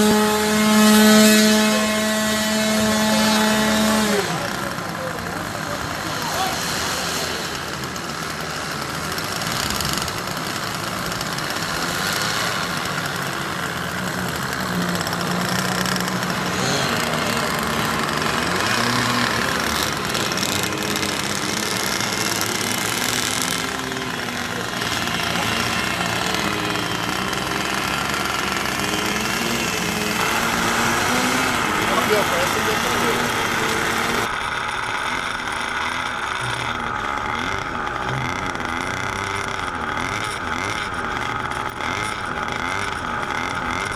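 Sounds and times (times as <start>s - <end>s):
model airplane engine running: 0.0s - 43.9s.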